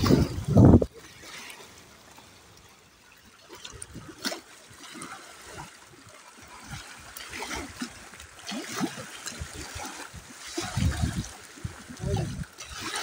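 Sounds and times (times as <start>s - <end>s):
waves lapping against rocks: 0.0s - 13.0s.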